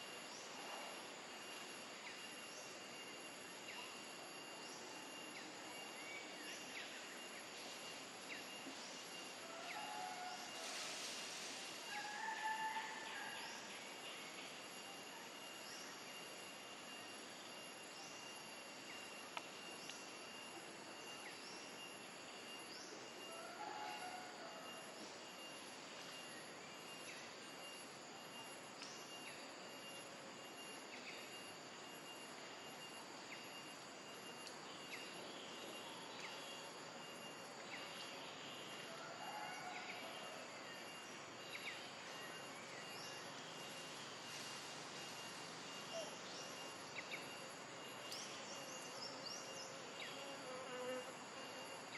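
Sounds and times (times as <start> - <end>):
insect drone: 0.0 - 51.9.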